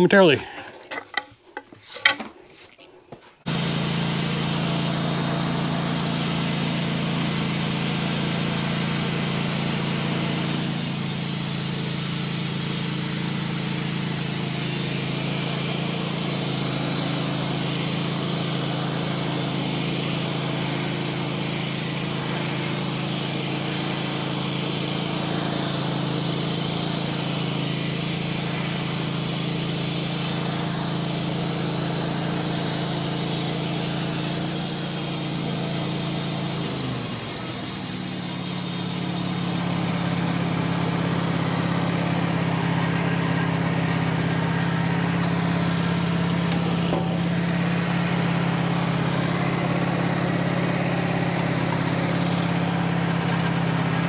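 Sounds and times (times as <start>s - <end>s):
band sawmill motor running: 3.5s - 54.0s
saw blade cutting log hiss: 3.5s - 54.0s.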